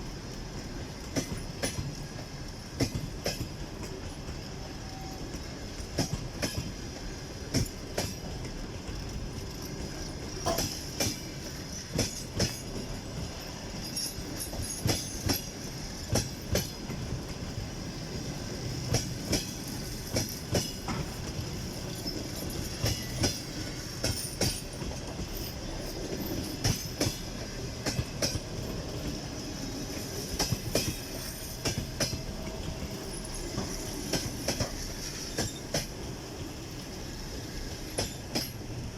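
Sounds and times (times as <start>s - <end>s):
train rumble: 0.0s - 38.9s
train wheels clacking over rail joints: 0.3s - 17.8s, 18.4s - 38.8s.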